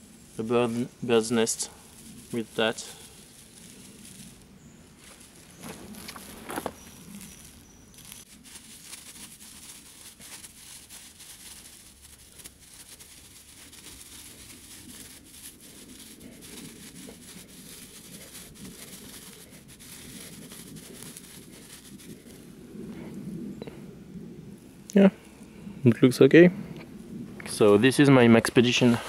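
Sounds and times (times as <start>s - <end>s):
dry grass crackling: 0.0s - 25.8s, 26.6s - 29.0s.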